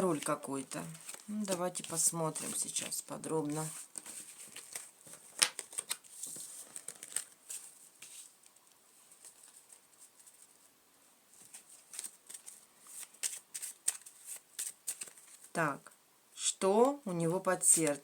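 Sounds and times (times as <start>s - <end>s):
playing cards rustling and tapping: 0.1s - 10.5s, 11.4s - 15.5s.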